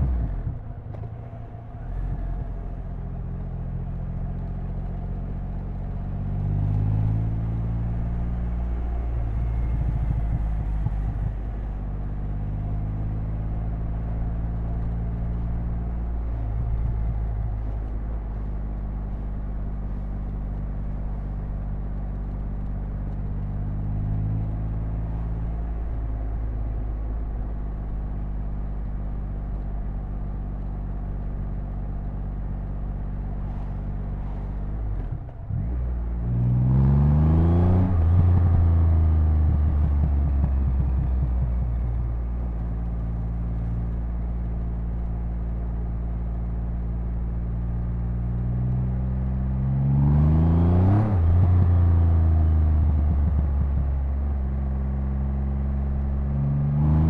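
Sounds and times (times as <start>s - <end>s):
motorcycle engine and exhaust revving: 0.0s - 29.0s, 30.1s - 57.0s.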